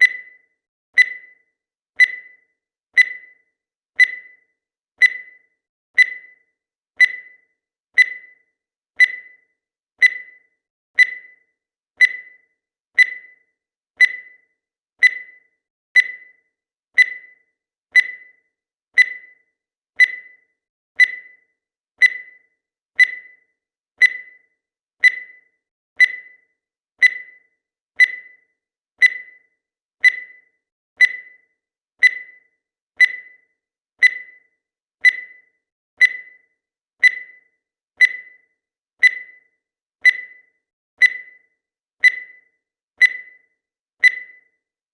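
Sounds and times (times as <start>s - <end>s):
timer beeping: 0.0s - 44.7s.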